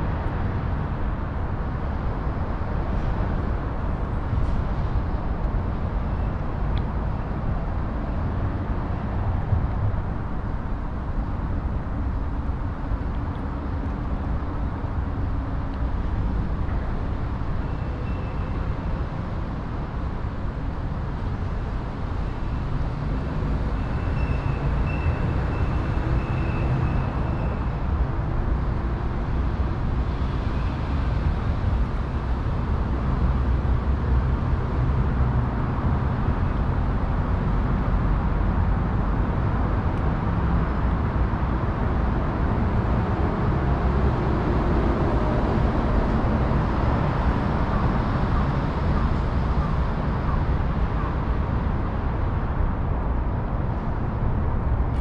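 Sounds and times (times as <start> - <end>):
city traffic rumble: 0.0 - 55.0.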